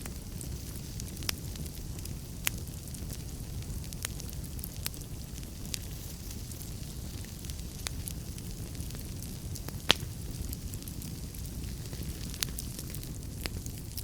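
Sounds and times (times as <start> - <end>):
low rumble of flames: 0.0 - 14.0
sharp pops of fire: 0.0 - 14.0
wood fire crackling: 0.0 - 14.0.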